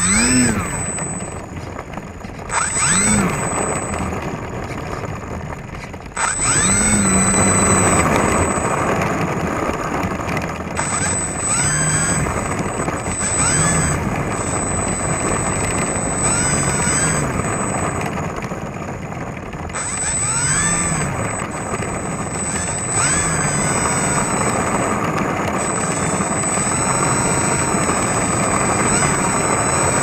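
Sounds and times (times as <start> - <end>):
constant rushing noise: 0.0 - 30.0
electric motors revving: 0.0 - 30.0
steady high whine: 0.0 - 30.0.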